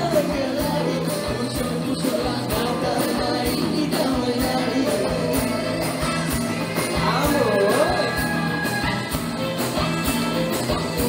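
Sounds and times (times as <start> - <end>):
drum kit beat: 0.0 - 11.0
live band playing dance music: 0.0 - 11.0.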